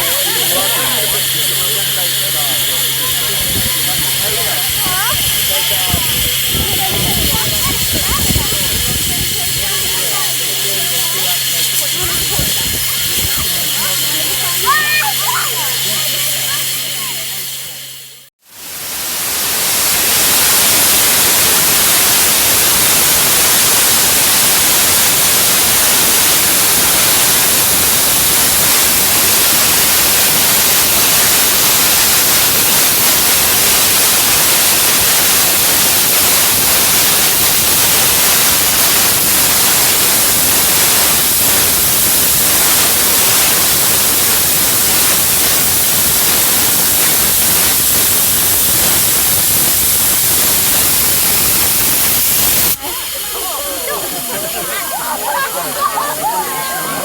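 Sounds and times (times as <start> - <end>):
steam locomotive blowing off steam: 0.0 - 57.0.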